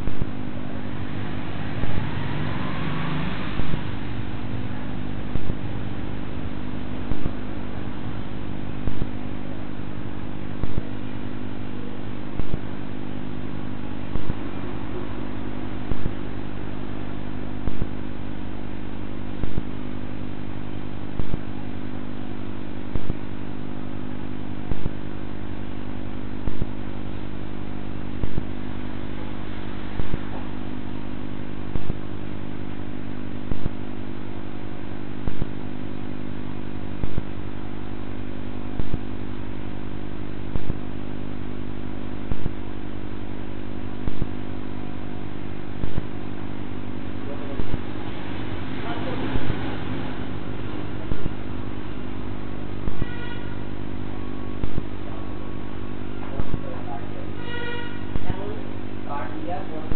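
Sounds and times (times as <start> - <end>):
steady hum with low tones: 0.0 - 59.9.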